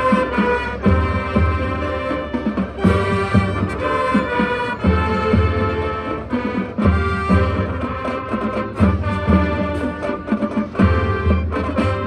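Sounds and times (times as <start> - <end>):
drum accents: 0.0 - 12.0
marching band playing: 0.0 - 12.0.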